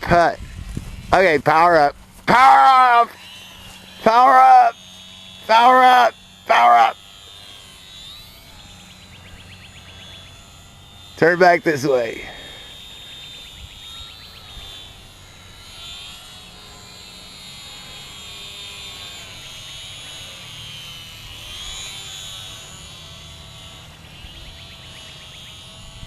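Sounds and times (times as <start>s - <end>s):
model airplane motor whining: 0.0s - 26.0s.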